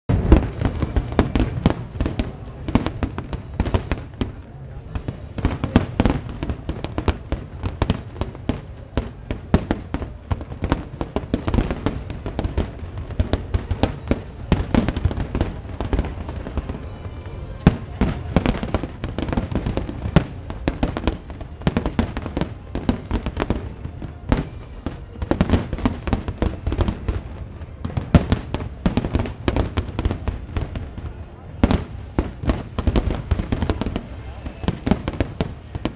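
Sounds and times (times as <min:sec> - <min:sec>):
firework shell bursts and crackling: 0:00.1 - 0:35.9.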